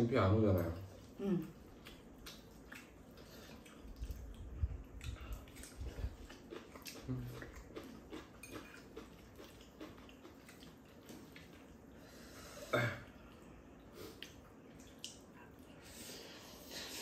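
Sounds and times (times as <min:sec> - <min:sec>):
chewing: 0:00.6 - 0:12.2, 0:13.0 - 0:17.0.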